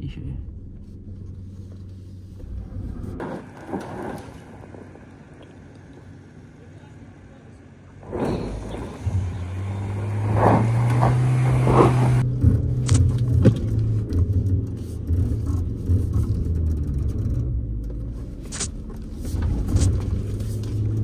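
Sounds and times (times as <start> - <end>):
vehicle engine under load: 0.5 - 21.0.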